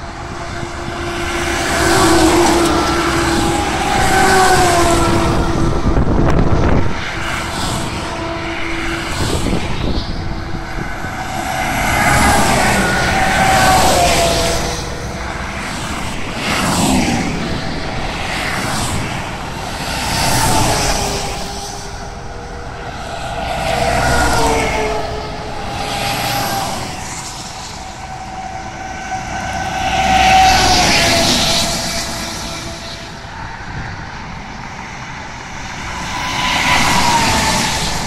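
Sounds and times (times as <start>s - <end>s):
vehicles passing at speed: 0.0s - 38.0s.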